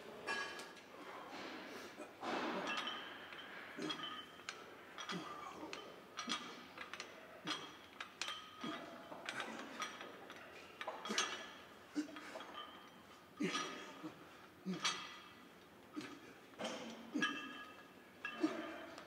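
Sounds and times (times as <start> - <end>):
metallic clinks of gym weights: 2.2 - 19.0.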